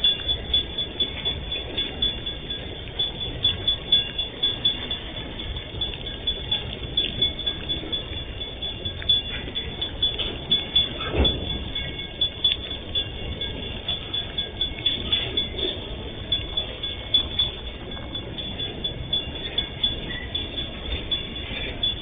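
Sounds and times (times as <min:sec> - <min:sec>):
freight train rolling past: 0:00.0 - 0:22.0
high metallic ringing: 0:00.0 - 0:22.0
wheels and couplings clanking: 0:00.0 - 0:22.0.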